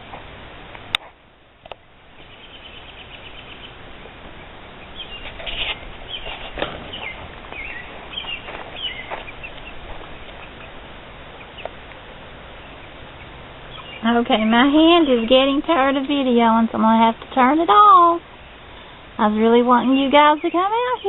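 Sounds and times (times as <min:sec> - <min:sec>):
outdoor hiss: 0:00.0 - 0:21.0
young chickens peeping: 0:02.0 - 0:21.0.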